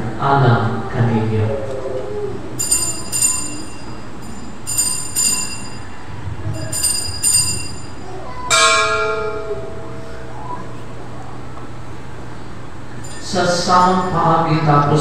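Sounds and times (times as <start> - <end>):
high bright altar bell rings: 2.6 - 15.0
lower-pitched bell strike ringing: 2.6 - 15.0.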